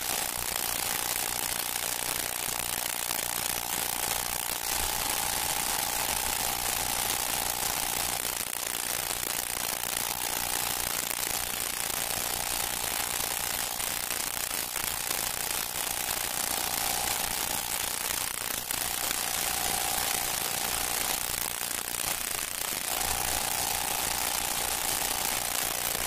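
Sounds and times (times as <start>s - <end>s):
film soundtrack hiss and crackle: 0.0s - 26.0s.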